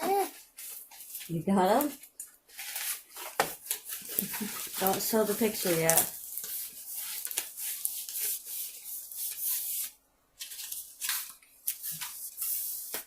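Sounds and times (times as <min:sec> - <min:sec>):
packaging rustling and crinkling: 0:00.1 - 0:08.9, 0:09.5 - 0:13.0.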